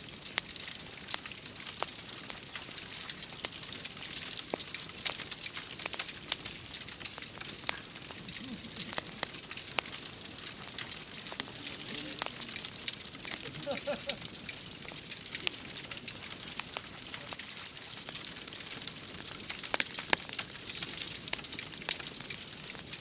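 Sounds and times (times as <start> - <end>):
fire pops and snaps: 0.0 - 23.0
steady fire hiss: 0.0 - 23.0.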